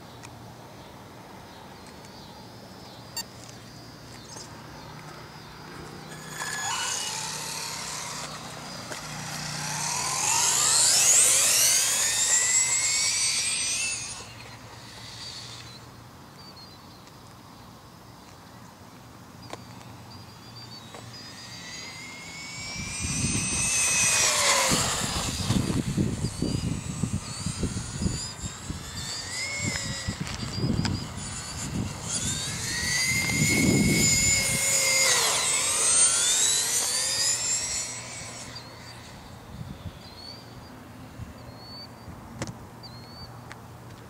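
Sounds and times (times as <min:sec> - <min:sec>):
rc truck motor whine passing: 0:03.1 - 0:17.1, 0:19.2 - 0:43.5.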